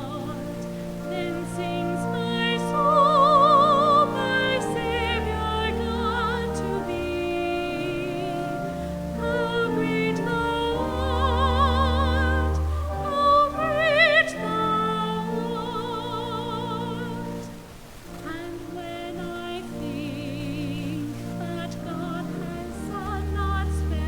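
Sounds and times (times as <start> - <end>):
person singing with vibrato: 0.0 - 24.0
sustained accompaniment chords: 0.0 - 24.0.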